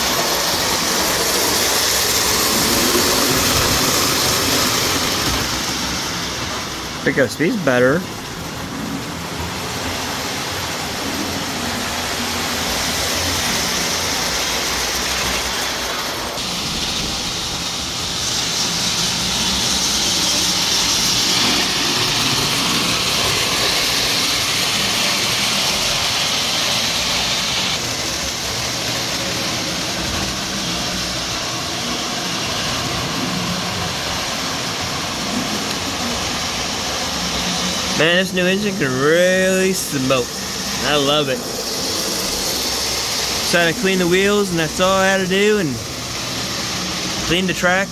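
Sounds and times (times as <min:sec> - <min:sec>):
model train motor and wheels humming: 0:00.0 - 0:47.9.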